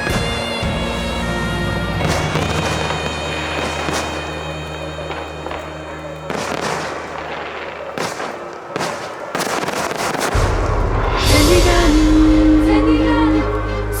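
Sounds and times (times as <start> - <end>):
fireworks bangs with crackle: 0.0 - 12.8.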